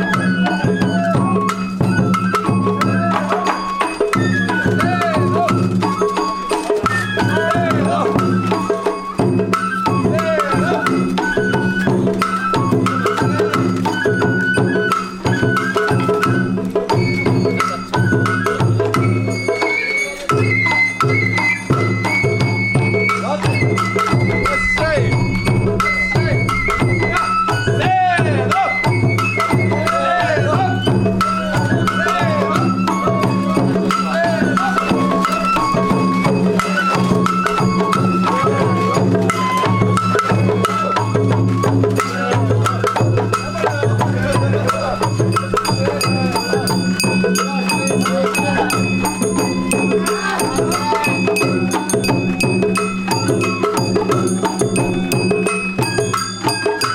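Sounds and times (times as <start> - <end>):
bamboo flute melody: 0.0 - 56.9
taiko drumming: 0.0 - 56.9.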